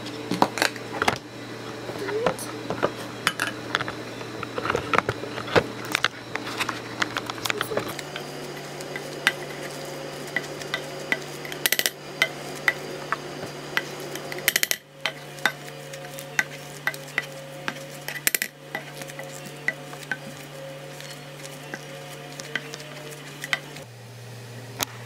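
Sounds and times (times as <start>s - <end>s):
steady low hum: 0.0s - 25.0s
potatoes being mashed: 3.6s - 23.8s.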